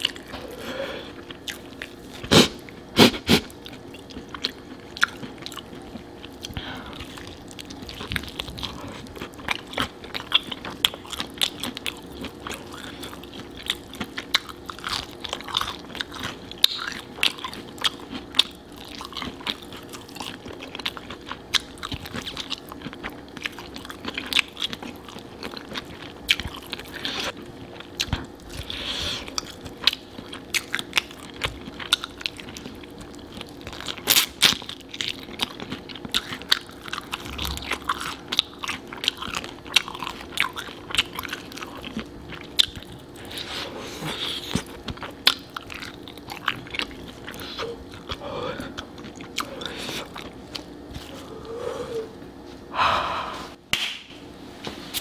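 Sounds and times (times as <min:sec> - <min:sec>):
chewing: 0:00.0 - 0:52.2.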